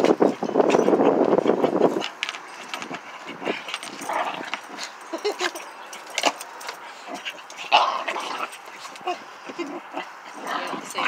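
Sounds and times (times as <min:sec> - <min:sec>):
dogs scrambling: 0:00.0 - 0:11.0.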